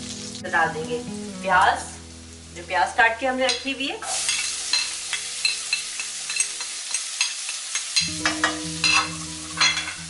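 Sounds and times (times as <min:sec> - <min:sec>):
onion and garlic sizzling in oil: 0:00.0 - 0:10.0.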